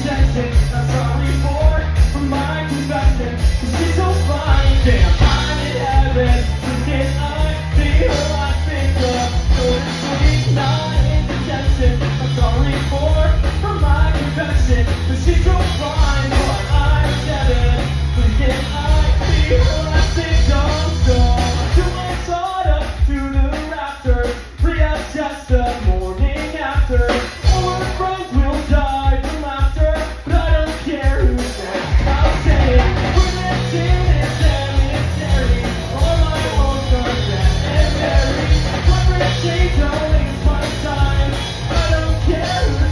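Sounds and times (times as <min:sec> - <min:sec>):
person singing: 0:00.0 - 0:42.9
rock song: 0:00.0 - 0:42.9.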